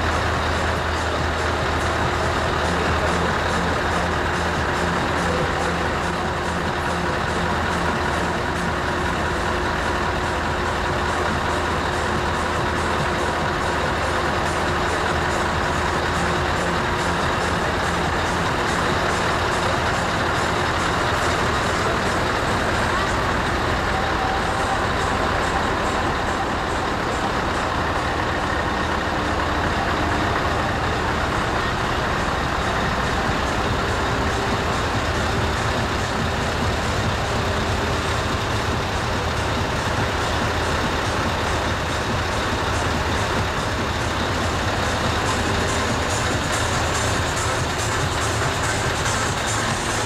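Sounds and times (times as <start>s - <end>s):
heavy truck engine rumbling: 0.0s - 50.0s.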